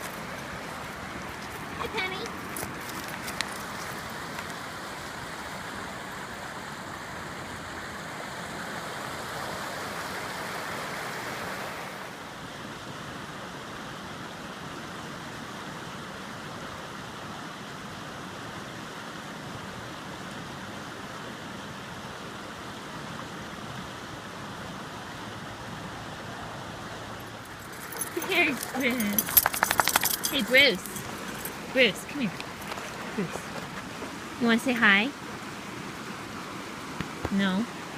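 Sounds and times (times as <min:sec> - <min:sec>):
river rushing over rocks: 0:00.0 - 0:37.9.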